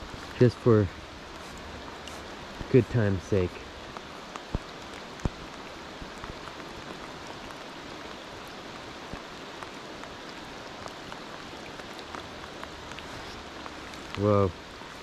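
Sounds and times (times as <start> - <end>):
rain falling on river: 0.0 - 15.0.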